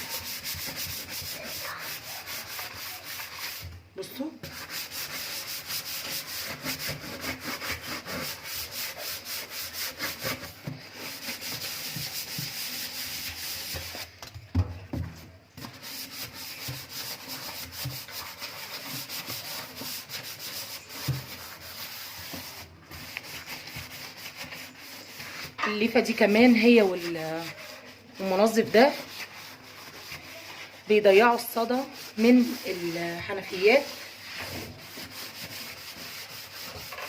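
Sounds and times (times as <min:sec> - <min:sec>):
sponge scrubbing stainless steel: 0:00.0 - 0:14.1, 0:15.1 - 0:37.0.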